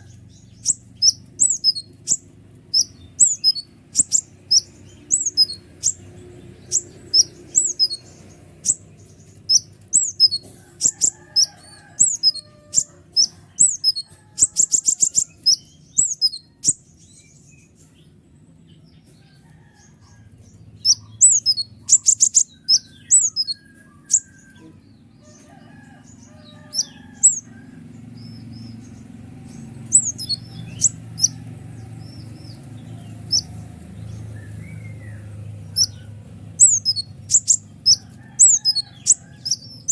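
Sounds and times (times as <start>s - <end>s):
sunbird high chirps and trills: 0.0s - 18.2s, 20.6s - 24.7s, 25.4s - 39.9s.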